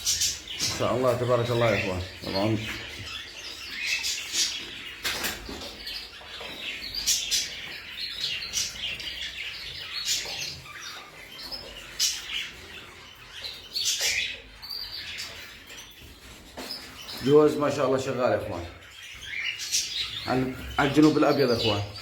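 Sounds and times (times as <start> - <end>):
canaries chirping: 0.0 - 22.0.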